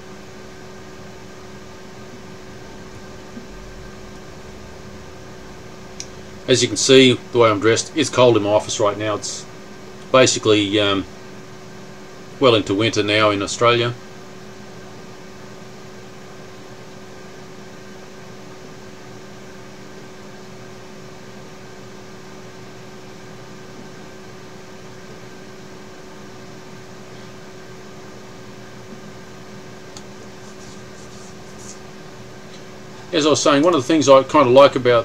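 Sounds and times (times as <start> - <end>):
constant low machinery tone: 0.0 - 35.0
fan hum and hiss: 0.0 - 35.0.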